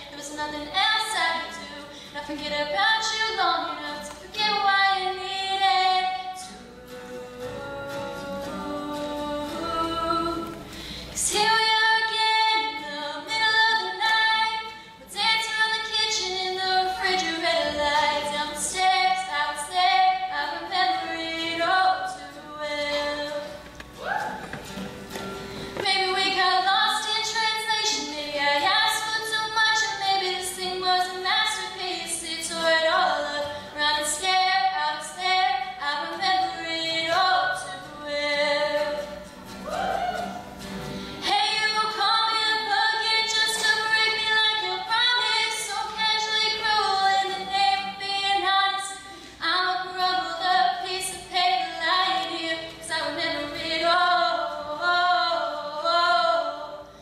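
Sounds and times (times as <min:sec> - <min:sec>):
woman singing slow song: 0:00.0 - 0:24.5, 0:25.8 - 0:40.4, 0:41.2 - 0:57.0.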